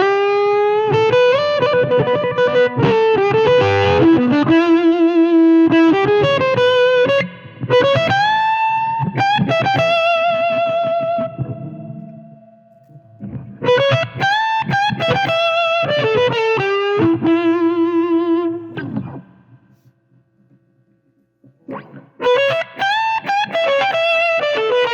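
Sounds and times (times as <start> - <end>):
fuzzed electric guitar: 0.0 - 20.6, 21.4 - 24.9.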